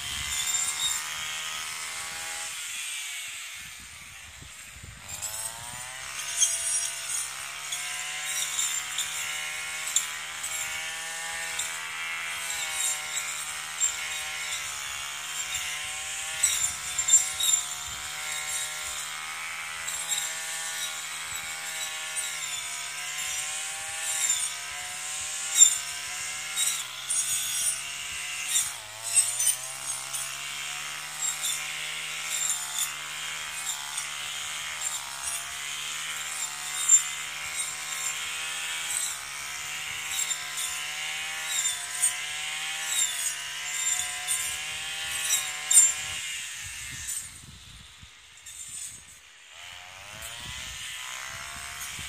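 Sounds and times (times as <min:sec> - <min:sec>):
brush cutter engine running: 0:00.0 - 0:52.0
blade striking stems: 0:05.0 - 0:47.4.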